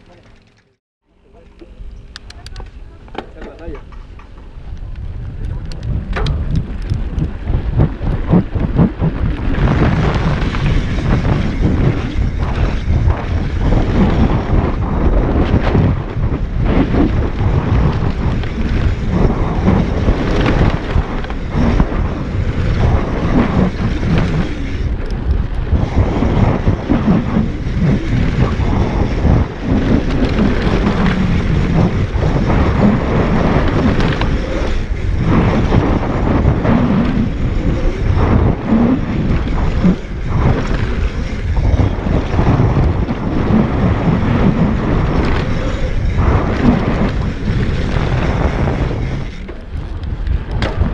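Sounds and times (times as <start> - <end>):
bike rattling over bumps: 0.0 - 0.8, 1.4 - 50.9
wind buffeting microphone: 1.7 - 50.9
tyres rolling over gravel: 5.1 - 50.9.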